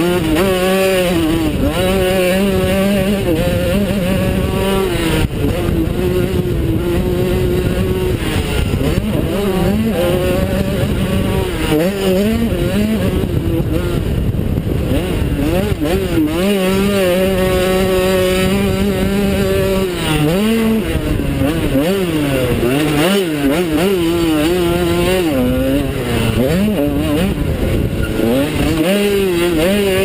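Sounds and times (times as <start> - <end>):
motocross bike engine revving: 0.0 - 30.0
wind noise on microphone: 0.0 - 30.0.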